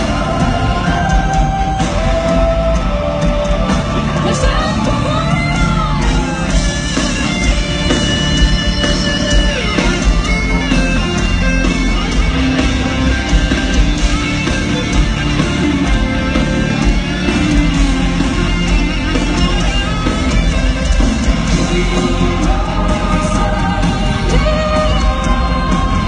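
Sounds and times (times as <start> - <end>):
distorted electric guitars: 0.0 - 26.0
drums: 0.0 - 26.0
keyboards: 0.0 - 26.0.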